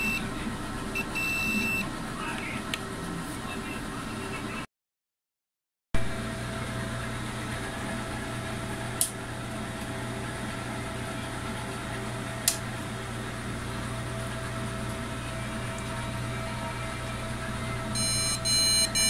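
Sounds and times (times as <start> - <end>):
power supply fan humming: 0.0 - 4.4, 6.0 - 19.0.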